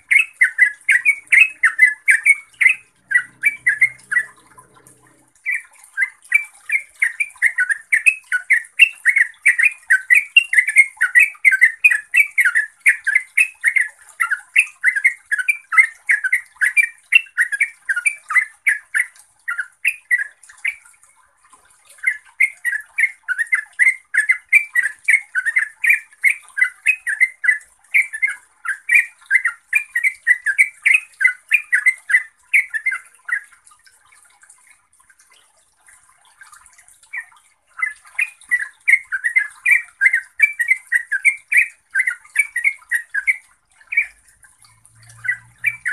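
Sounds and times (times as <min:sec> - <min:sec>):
bird singing bubbling notes: 0:00.0 - 0:33.9, 0:36.0 - 0:45.9.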